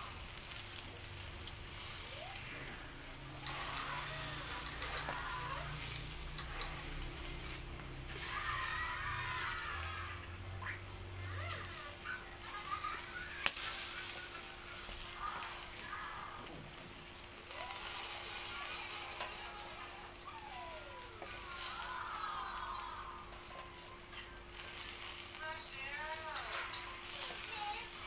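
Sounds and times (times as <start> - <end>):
skewers clicking on metal grate: 0.0 - 12.0, 12.6 - 20.6, 21.2 - 28.0
skewers sizzling over charcoal: 0.0 - 28.0.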